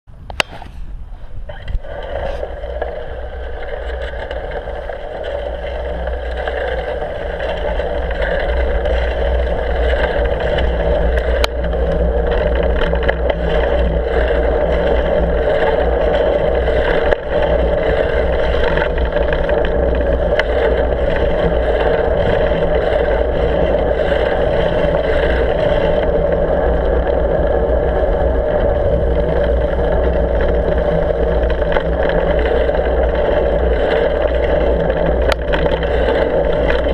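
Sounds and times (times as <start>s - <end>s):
wind noise: 0.1s - 36.9s
bike whirring on snow road: 0.3s - 36.9s.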